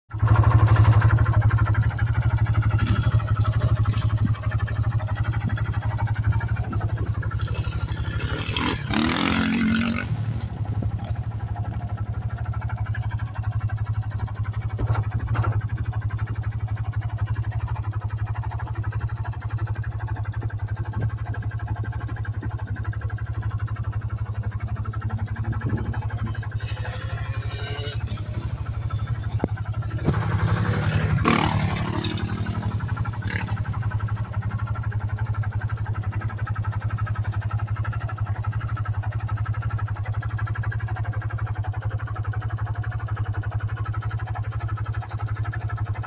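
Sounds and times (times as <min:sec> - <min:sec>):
dirt bike engine running: 0:00.1 - 0:46.0
off-road vehicle engine idling: 0:00.1 - 0:46.0.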